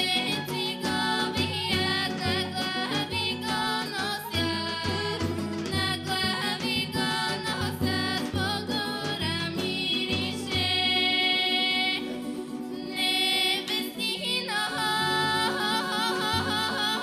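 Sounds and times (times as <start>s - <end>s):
folk band melody with held notes: 0.0s - 17.0s.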